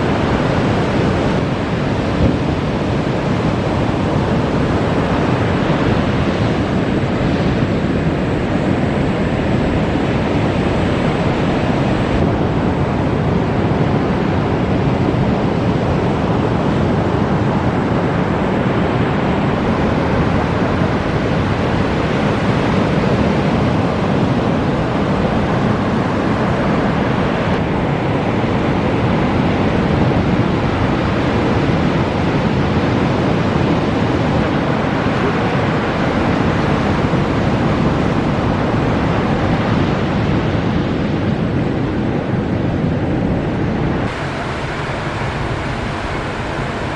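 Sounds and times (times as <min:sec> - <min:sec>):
ocean surf breaking: 0:00.0 - 0:46.9
wind noise on microphone: 0:00.0 - 0:46.9.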